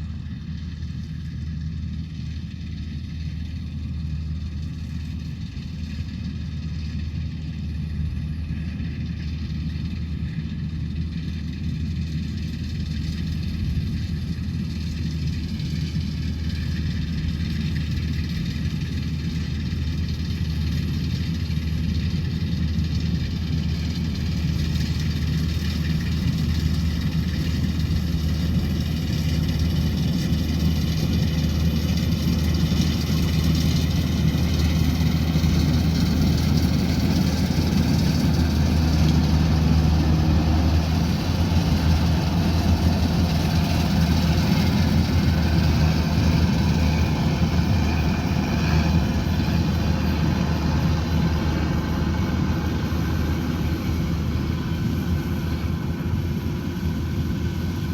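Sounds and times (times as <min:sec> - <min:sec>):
harvester engine running: 0:00.0 - 0:57.9.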